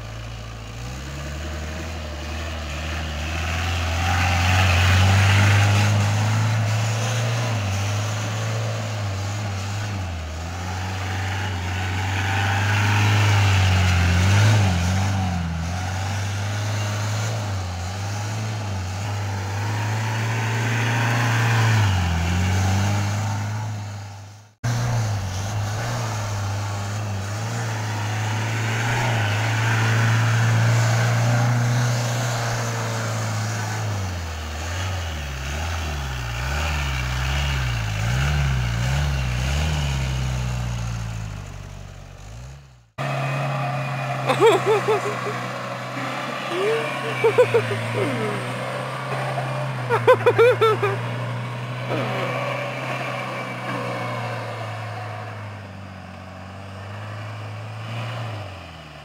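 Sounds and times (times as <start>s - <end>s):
jeep engine running at high revs: 0.0s - 59.0s.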